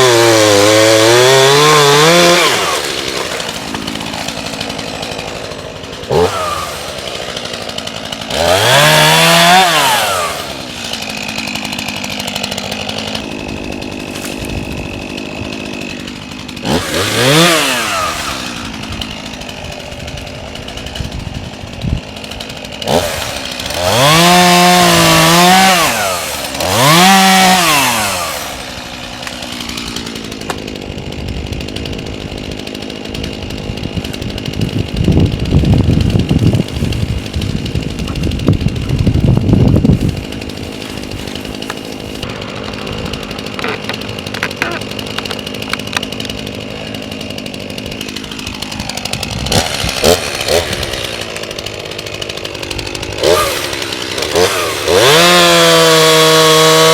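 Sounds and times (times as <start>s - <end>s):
chainsaw idling and revving: 0.0s - 56.9s.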